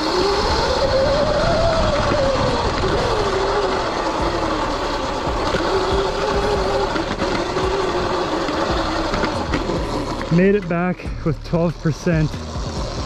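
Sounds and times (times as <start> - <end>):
electric motor whine: 0.0 - 13.0
wind: 0.0 - 13.0.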